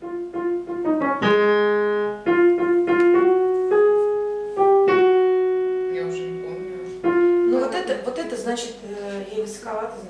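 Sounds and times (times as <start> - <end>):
digital piano notes and chords: 0.0 - 8.5.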